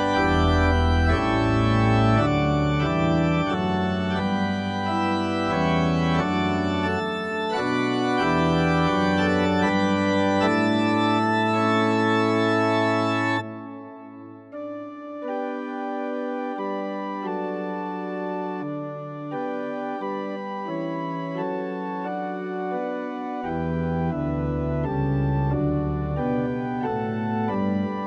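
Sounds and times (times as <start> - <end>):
church organ chords: 0.0 - 28.0.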